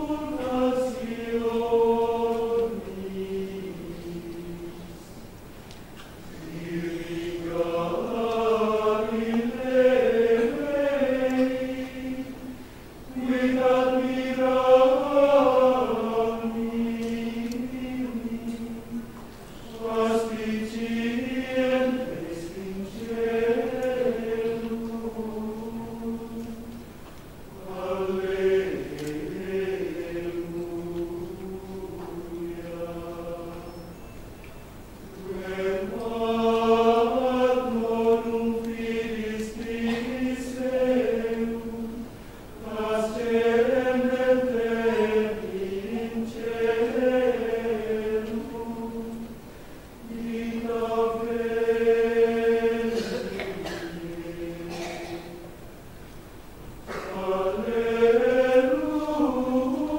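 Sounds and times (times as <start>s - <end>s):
men's choir chanting: 0.0s - 5.0s, 6.4s - 26.7s, 27.6s - 34.0s, 35.2s - 49.3s, 50.0s - 55.5s, 56.9s - 59.9s.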